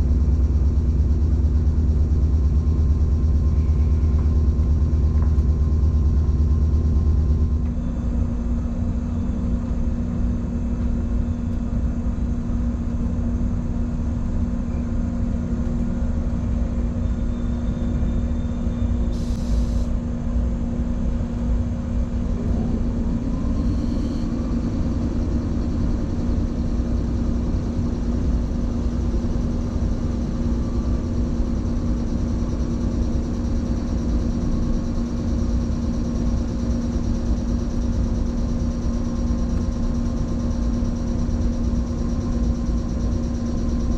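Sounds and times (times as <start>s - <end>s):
second hum: 0.0s - 9.8s, 14.6s - 43.9s
train equipment humming: 0.0s - 43.9s.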